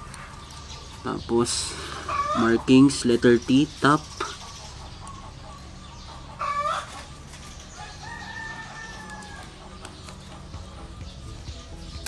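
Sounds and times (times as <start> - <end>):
chicken calling: 0.0 - 12.0
steady low hum: 0.0 - 12.0.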